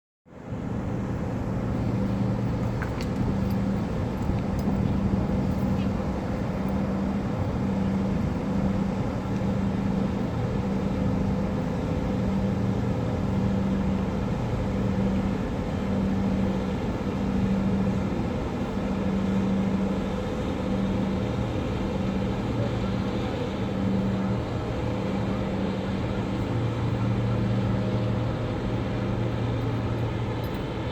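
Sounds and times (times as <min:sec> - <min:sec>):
low engine rumble: 0:00.3 - 0:30.9
pulsing low hum: 0:00.4 - 0:30.9.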